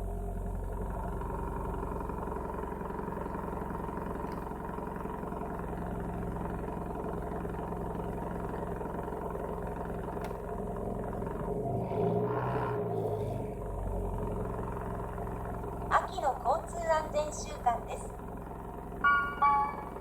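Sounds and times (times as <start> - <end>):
abnormal engine noise: 0.0 - 20.0
car engine running: 0.0 - 20.0.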